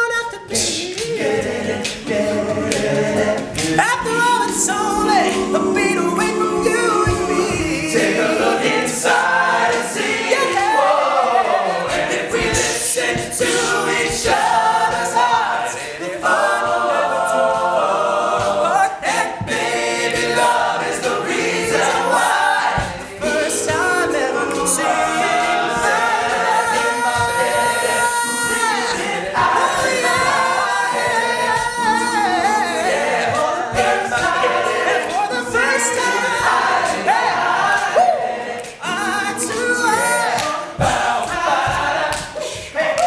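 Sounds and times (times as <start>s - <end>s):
male a cappella group singing: 0.0s - 43.0s.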